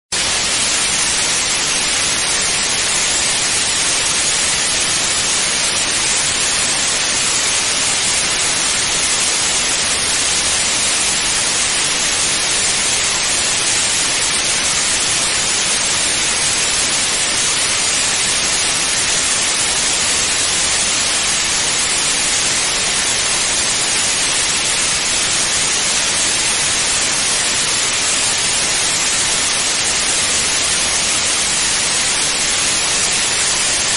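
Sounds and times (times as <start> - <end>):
television static hiss: 0.2 - 33.9.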